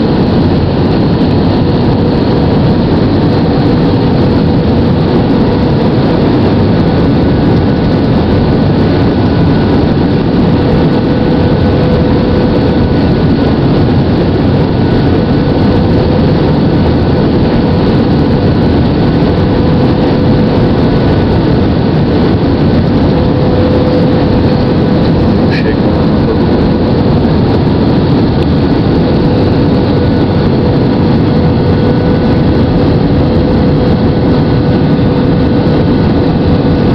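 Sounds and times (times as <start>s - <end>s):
faint steady whine: 0.0s - 36.9s
jet engines and airflow rumble: 0.0s - 36.9s.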